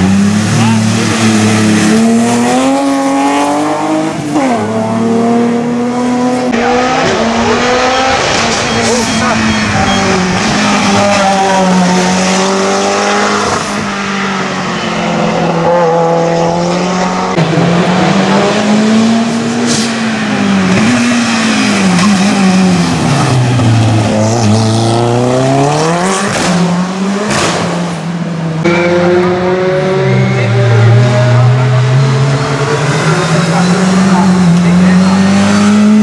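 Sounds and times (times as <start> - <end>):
race car engines at full throttle: 0.0 - 36.0.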